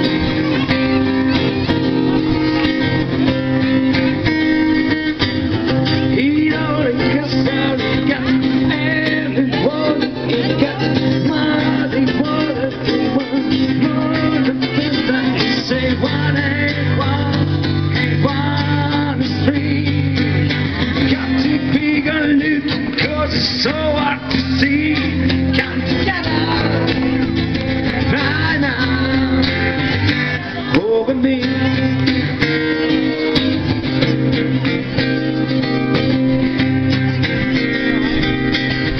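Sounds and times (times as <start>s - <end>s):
guitar playing: 0.0s - 38.9s
low bass notes: 0.0s - 38.9s.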